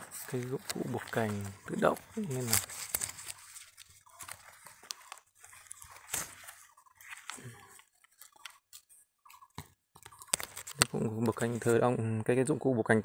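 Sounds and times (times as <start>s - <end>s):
vine leaves rustling and crackling: 0.0s - 8.9s, 10.1s - 11.8s.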